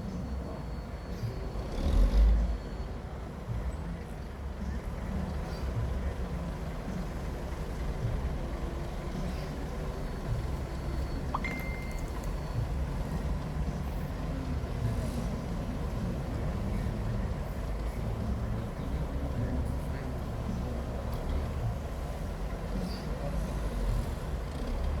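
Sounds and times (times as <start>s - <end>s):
heavy machine engine rumbling: 0.0s - 25.0s.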